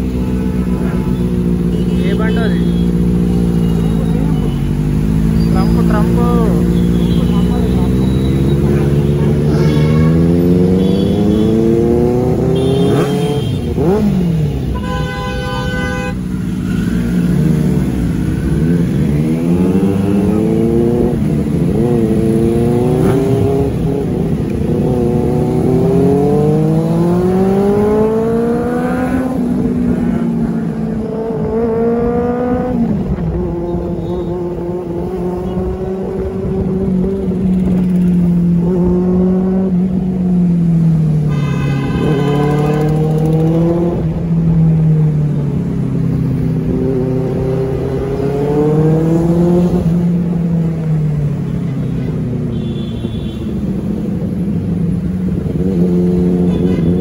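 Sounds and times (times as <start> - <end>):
motorcycle engine revving: 0.0 - 14.8, 16.1 - 57.0.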